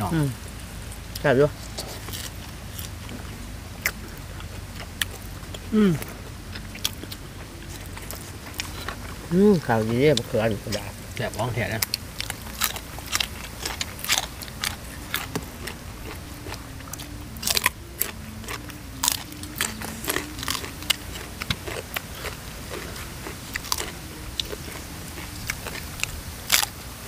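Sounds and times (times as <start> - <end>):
crunching raw green bean: 1.1 - 9.2, 10.1 - 26.8.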